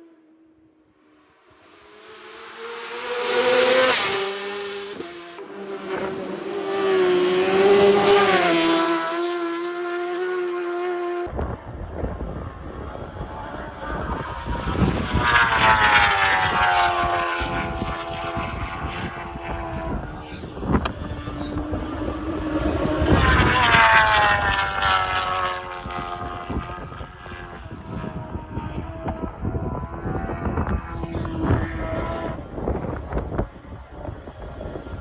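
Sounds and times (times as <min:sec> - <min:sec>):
racing motorcycles passing: 0:00.0 - 0:35.0.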